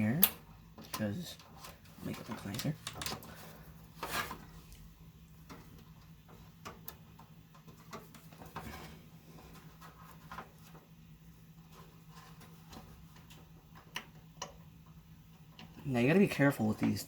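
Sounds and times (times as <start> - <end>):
steady low hum: 0.0 - 17.0
cables rubbing and clicking: 0.1 - 17.0.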